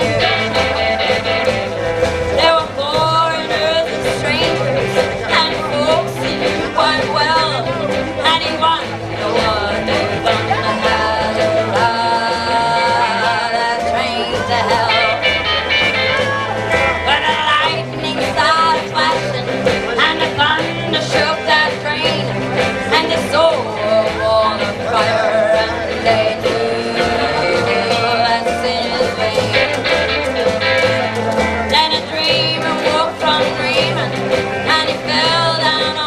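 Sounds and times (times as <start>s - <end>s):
woman singing: 0.0s - 1.7s, 2.3s - 15.5s, 17.0s - 30.2s, 31.7s - 36.0s
drums keeping a beat: 0.0s - 36.0s
electric guitars: 0.0s - 36.0s
upright bass: 0.0s - 36.0s.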